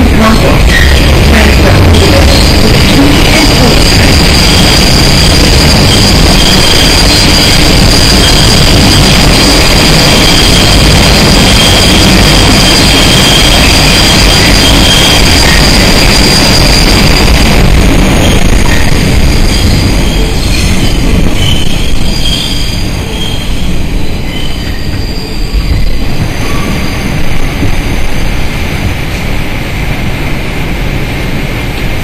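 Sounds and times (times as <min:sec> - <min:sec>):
subway train rumble: 0:00.0 - 0:32.0
high wheel squeal: 0:00.4 - 0:27.5
lower wheel squeal: 0:00.6 - 0:17.5, 0:18.2 - 0:27.5.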